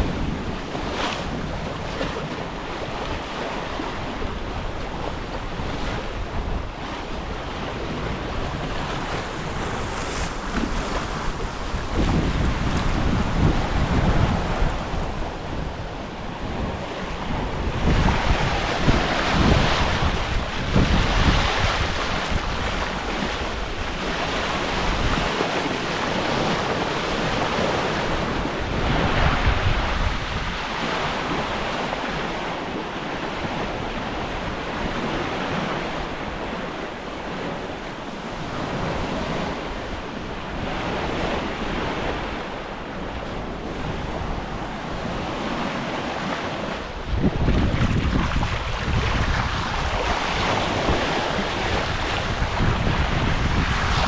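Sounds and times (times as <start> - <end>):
waves rushing: 0.0 - 54.0
wind on microphone: 0.0 - 54.0.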